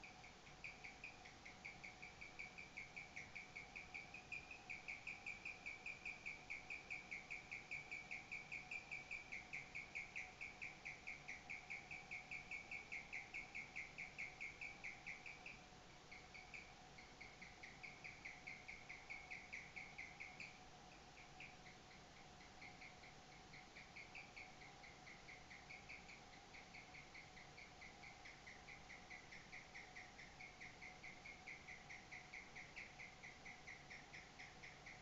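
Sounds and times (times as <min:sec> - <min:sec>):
faint steady hum: 0:00.0 - 0:35.0
guinea pig chirping: 0:00.0 - 0:35.0.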